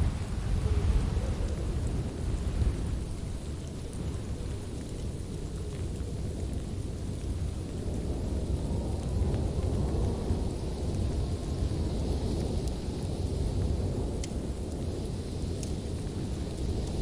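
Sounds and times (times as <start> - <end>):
fire crackles: 0.0 - 17.0
fireplace fire rumbling: 0.0 - 17.0.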